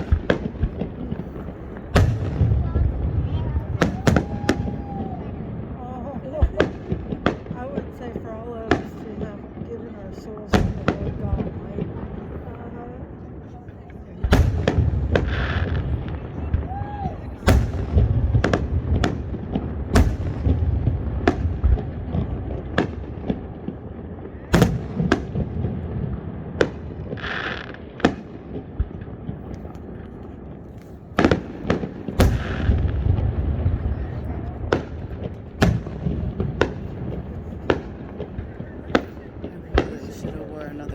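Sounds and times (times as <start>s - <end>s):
fireworks bangs and pops: 0.0s - 40.9s
fireworks crackling: 0.0s - 40.9s.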